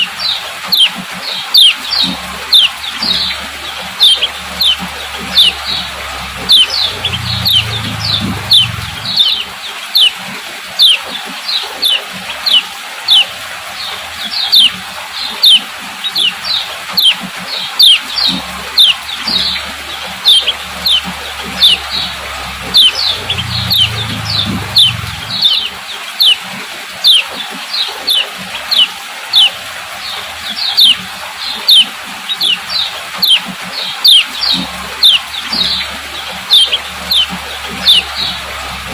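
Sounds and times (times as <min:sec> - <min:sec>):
bird chirping call: 0:00.0 - 0:10.2, 0:10.8 - 0:13.3, 0:14.3 - 0:26.4, 0:27.0 - 0:38.9.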